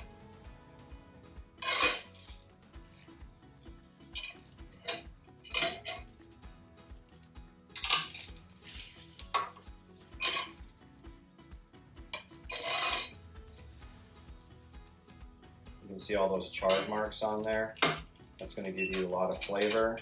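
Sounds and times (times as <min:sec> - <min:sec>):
background music with steady beat: 0:00.0 - 0:20.0.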